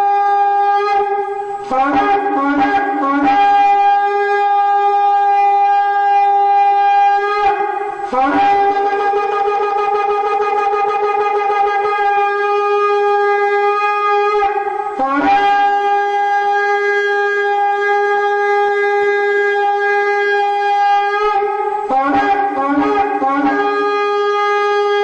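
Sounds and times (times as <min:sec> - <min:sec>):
shofar blasts: 0:00.0 - 0:25.0.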